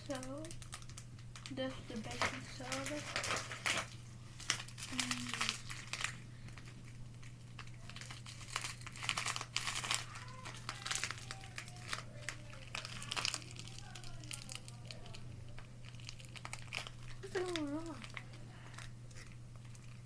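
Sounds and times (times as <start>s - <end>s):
plastic packaging crinkling: 0.0s - 20.0s
steady low hum: 0.0s - 20.0s.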